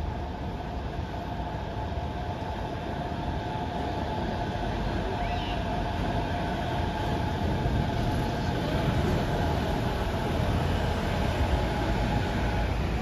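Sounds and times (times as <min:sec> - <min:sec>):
monorail car rumbling overhead: 0:00.0 - 0:13.0.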